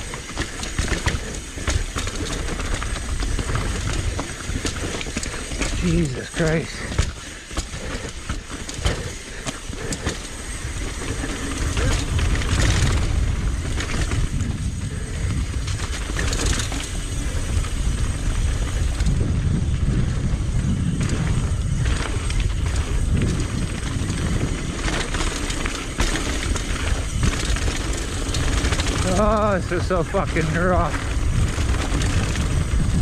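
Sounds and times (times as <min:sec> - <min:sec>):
bike knocking and rattling: 0:00.0 - 0:33.0
tyres rumbling over rocky ground: 0:00.0 - 0:33.0
wind buffeting microphone: 0:00.0 - 0:33.0.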